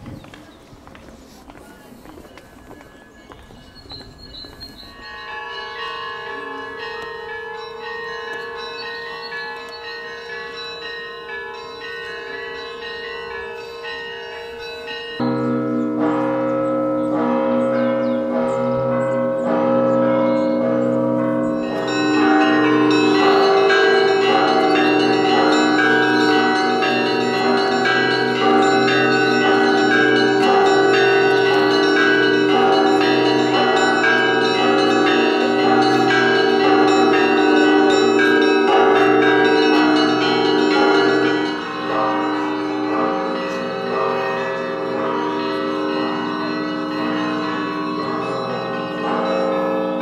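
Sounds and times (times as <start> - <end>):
church bells pealing: 0.0 - 50.0
low deep bell ringing: 3.0 - 50.0.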